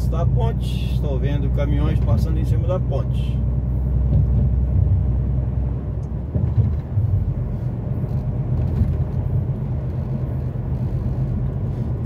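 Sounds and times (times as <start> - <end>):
road noise: 0.0 - 12.0
truck diesel engine rumble: 0.0 - 12.0.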